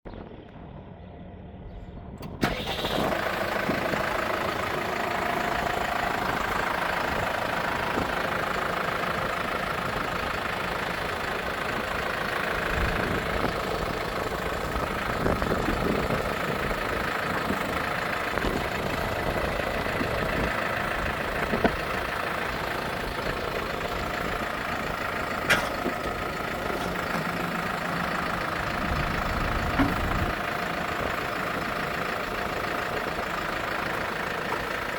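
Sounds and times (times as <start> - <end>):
tractor diesel engine idling: 0.9 - 34.9.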